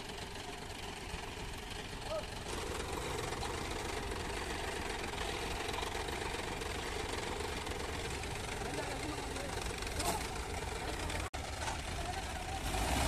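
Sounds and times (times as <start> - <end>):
diesel tractor engine idling: 0.0 - 12.9.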